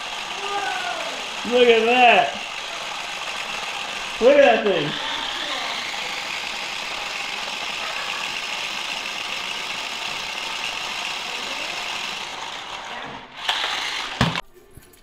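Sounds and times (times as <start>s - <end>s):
spinning top whirring: 0.0s - 14.4s.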